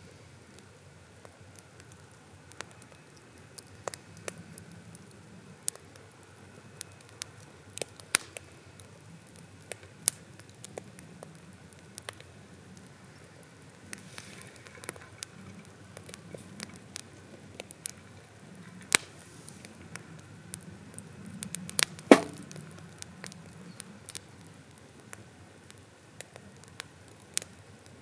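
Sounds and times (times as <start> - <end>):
campfire crackling: 0.0 - 28.0
faint low hiss: 0.0 - 28.0.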